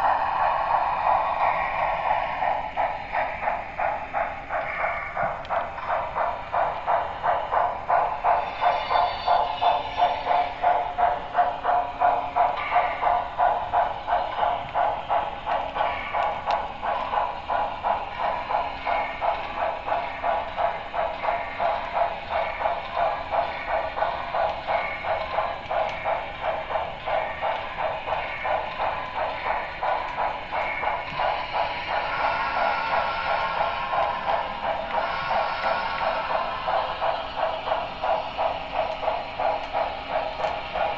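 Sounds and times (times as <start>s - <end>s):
model steam locomotive chuffs: 0.0s - 40.9s.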